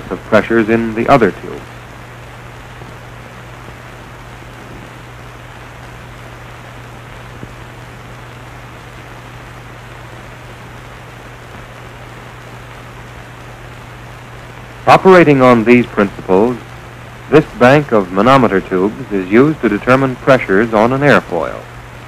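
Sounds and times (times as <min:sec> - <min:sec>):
film soundtrack hiss and hum: 0:00.0 - 0:22.0.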